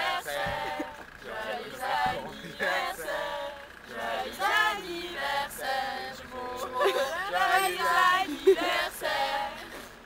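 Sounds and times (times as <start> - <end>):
voices singing together: 0.0 - 10.0.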